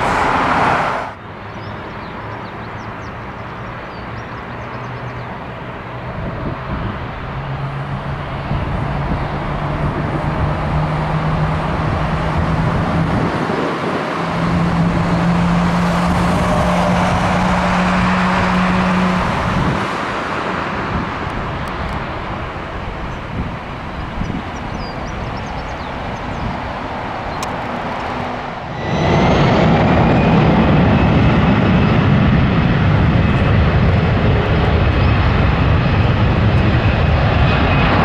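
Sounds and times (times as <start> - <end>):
jet engines at take-off power: 0.0 - 38.0.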